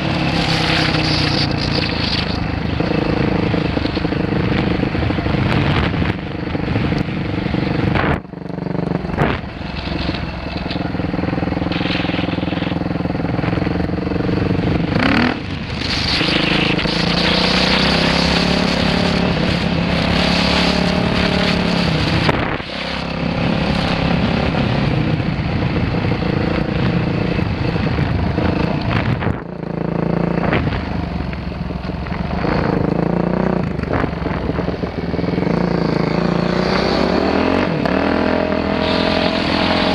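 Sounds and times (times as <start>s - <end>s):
dirt bike engine revving: 0.0s - 31.1s, 32.1s - 39.9s.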